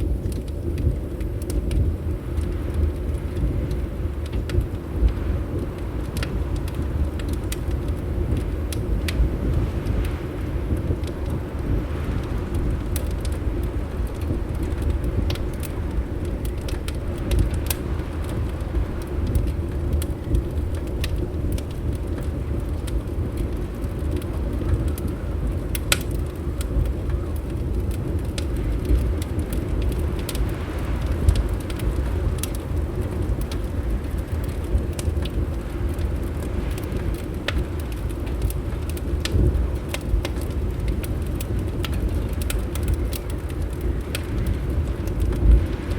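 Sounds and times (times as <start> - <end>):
steady low rumble: 0.0 - 45.9
wood fire crackling: 0.0 - 45.9.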